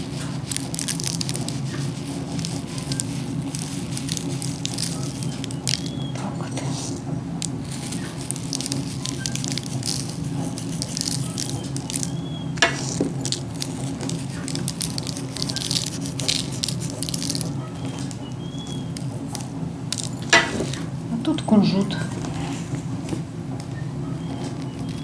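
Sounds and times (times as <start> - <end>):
seeds pattering on dough: 0.0 - 22.7, 23.6 - 25.0
steady low hum: 0.0 - 25.0.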